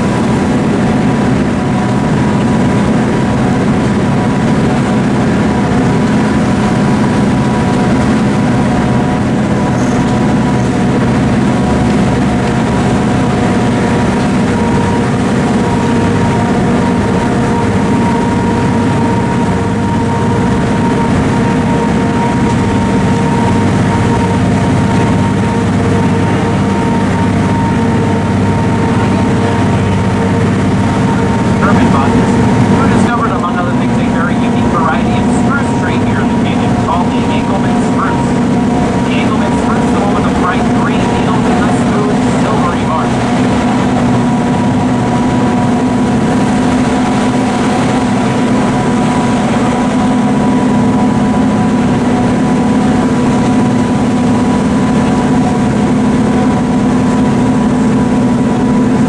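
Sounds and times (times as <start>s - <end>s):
steady whining tones: 0.0s - 59.0s
train running drone: 0.0s - 59.0s.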